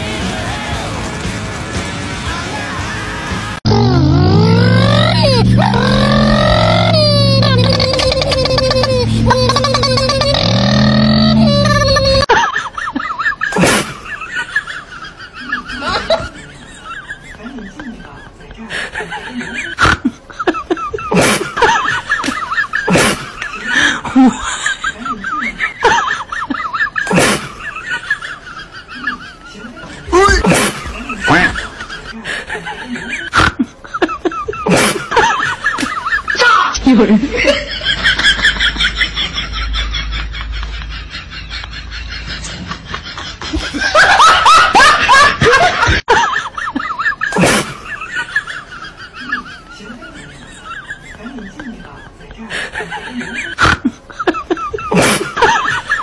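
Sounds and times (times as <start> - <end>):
high-pitched laughter: 3.7 - 52.2, 52.8 - 56.0.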